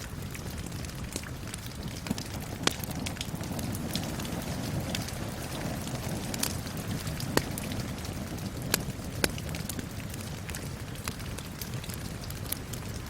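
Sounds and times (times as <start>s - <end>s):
steady rain hissing: 0.0s - 13.0s
wood fire popping and snapping: 0.0s - 13.0s.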